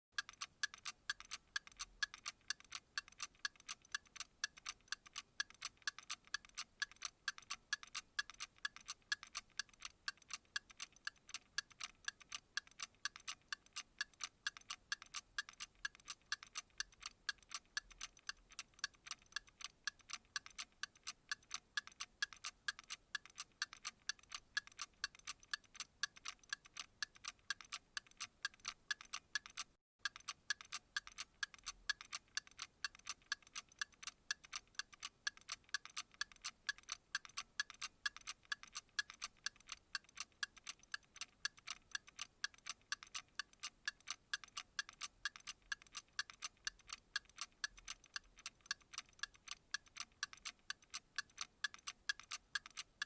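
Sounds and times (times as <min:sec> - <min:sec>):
high crisp ticking: 0:00.2 - 0:53.0.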